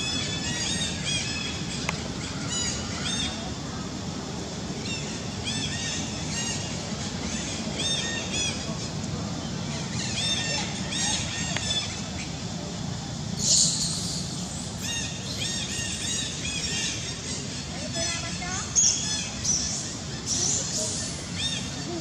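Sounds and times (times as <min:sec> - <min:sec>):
birds chirping: 0:00.0 - 0:22.0
outdoor background hum: 0:00.0 - 0:22.0.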